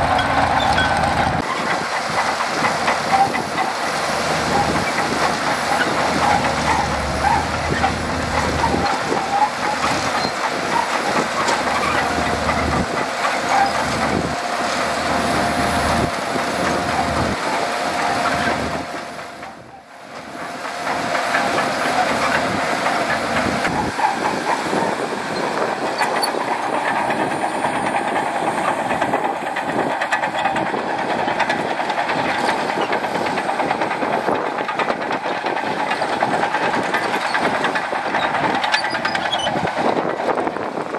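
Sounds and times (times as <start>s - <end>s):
bulldozer diesel engine under load: 0.0s - 40.9s
clatter of steel tracks: 0.0s - 40.9s.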